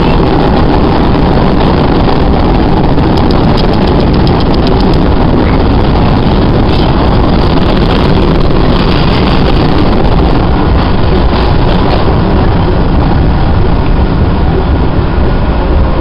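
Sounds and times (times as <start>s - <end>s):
subway train wheels on rails: 0.0s - 16.0s.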